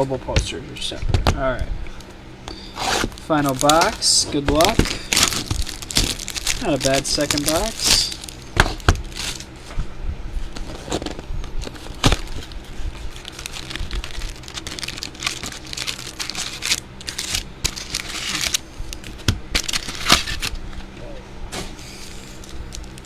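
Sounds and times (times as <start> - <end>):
plastic wrapping crinkling and tearing: 2.7 - 9.6, 10.4 - 20.9, 21.5 - 23.0.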